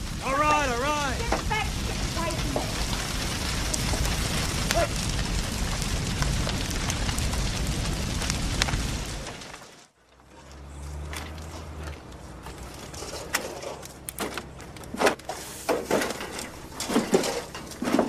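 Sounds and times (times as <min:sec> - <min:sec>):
roar of flames crackling: 0:00.0 - 0:18.0.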